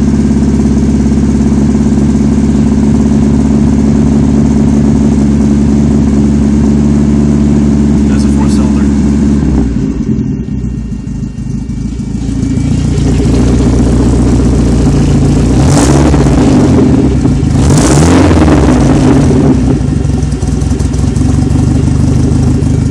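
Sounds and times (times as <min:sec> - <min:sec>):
car engine idling: 0:00.0 - 0:22.9
engine revving: 0:00.0 - 0:22.9.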